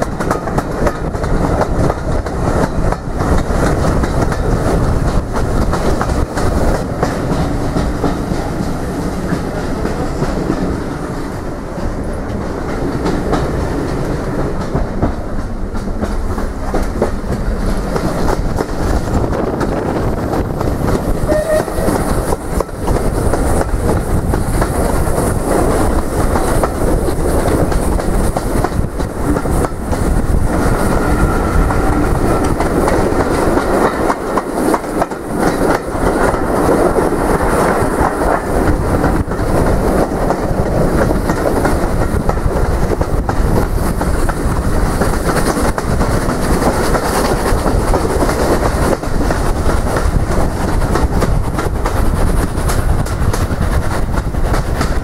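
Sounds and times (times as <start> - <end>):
train wheels clicking on rail joints: 0.0 - 55.0.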